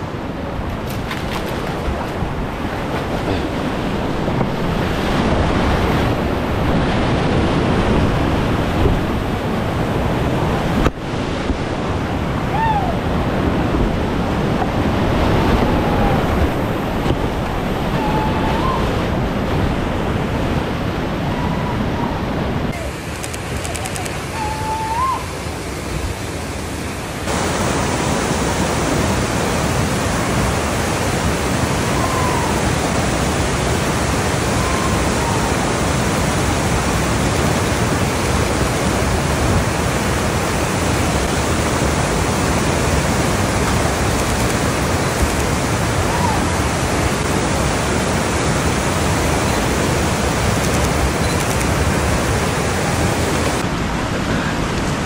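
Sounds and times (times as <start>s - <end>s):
whitewater creek rushing: 0.0s - 55.0s.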